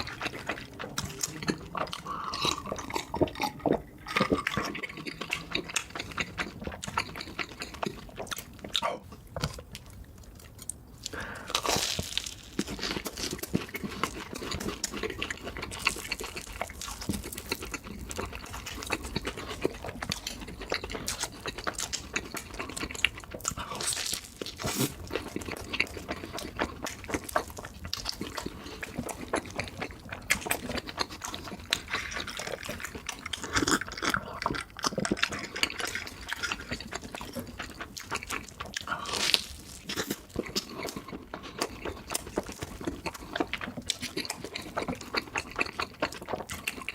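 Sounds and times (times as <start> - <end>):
wet chewing and slurping: 0.0 - 46.9.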